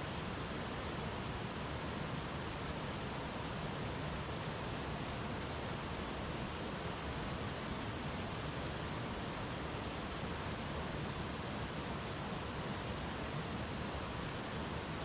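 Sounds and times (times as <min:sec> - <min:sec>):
brook water running: 0:00.0 - 0:15.0.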